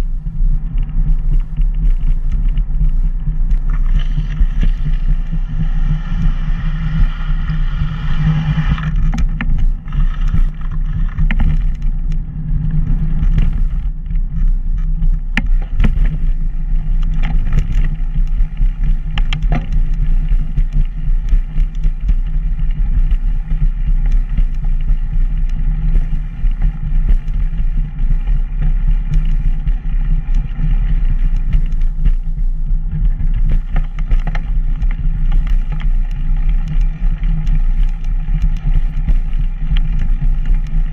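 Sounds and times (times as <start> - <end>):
low rumble: 0.0 - 40.9
wind on camera: 0.0 - 40.9.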